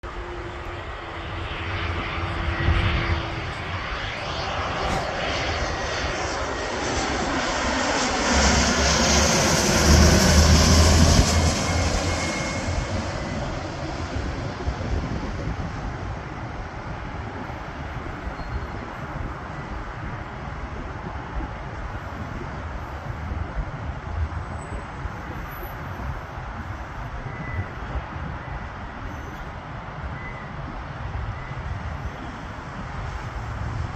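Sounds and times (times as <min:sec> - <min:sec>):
jet engine roar: 0:00.0 - 0:33.9.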